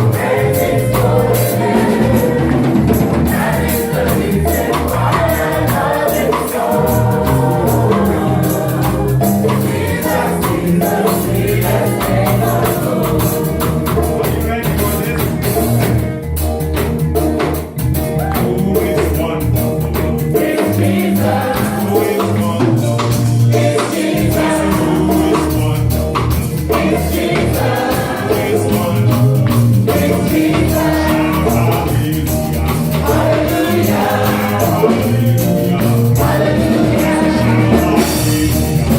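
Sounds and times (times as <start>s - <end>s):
voices singing gospel music: 0.0s - 38.9s.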